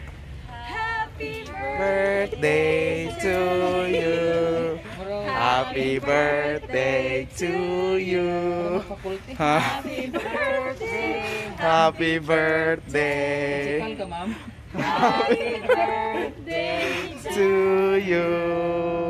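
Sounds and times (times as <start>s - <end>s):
group of people singing: 0.5s - 19.0s.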